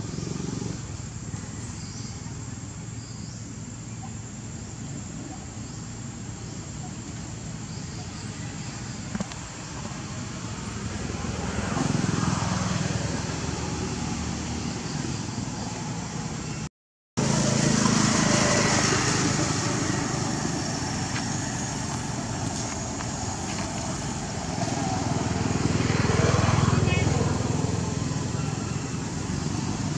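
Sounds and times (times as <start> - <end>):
outdoor background noise with low hum: 0.0 - 29.9.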